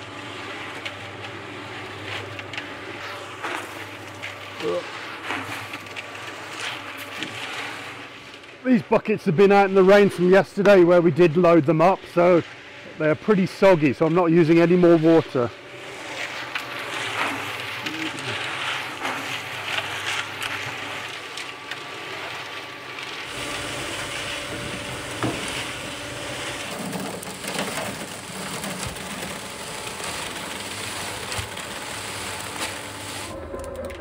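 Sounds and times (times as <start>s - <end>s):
cement mixer churning concrete: 0.0s - 34.0s.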